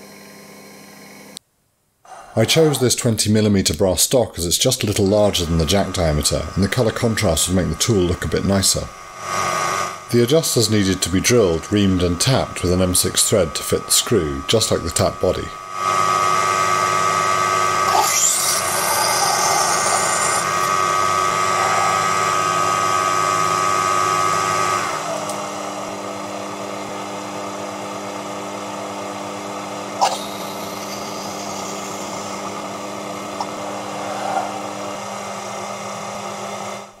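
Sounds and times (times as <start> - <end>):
lathe motor whine: 0.0 - 1.4, 4.8 - 37.0.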